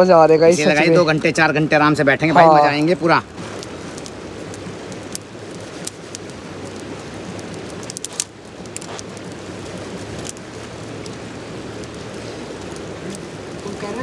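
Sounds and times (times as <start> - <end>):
campfire crackling and popping: 0.0 - 14.0
river rushing: 0.0 - 14.0.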